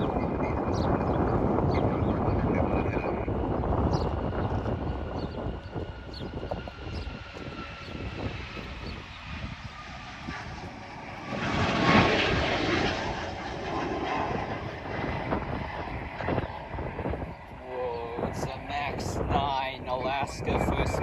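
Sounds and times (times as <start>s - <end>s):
jet engines whining and roaring: 0.0s - 21.0s.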